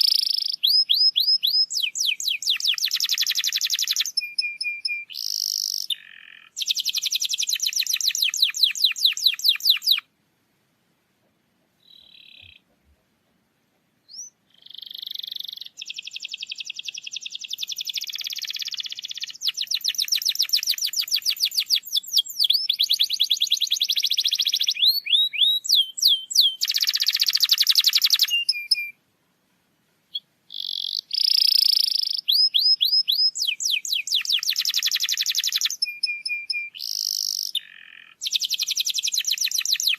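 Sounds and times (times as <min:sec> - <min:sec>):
canary singing trills: 0:00.0 - 0:10.1, 0:11.8 - 0:12.8, 0:14.0 - 0:29.0, 0:30.1 - 0:39.9.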